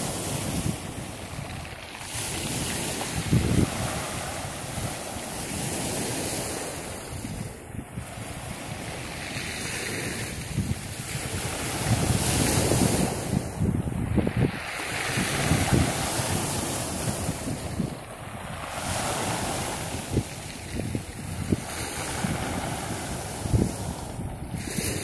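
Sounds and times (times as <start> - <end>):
waves washing up pebble beach: 0.0 - 25.0
wind buffeting microphone: 0.0 - 25.0.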